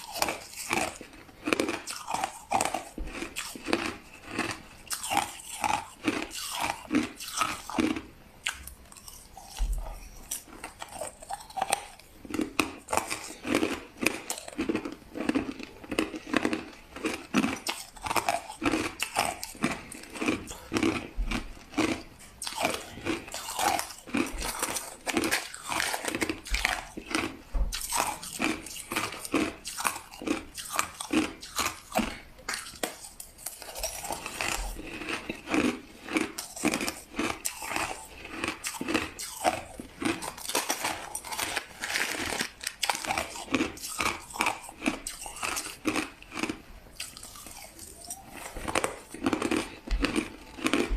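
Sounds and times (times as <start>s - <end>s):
person chewing ice: 0.0s - 50.9s.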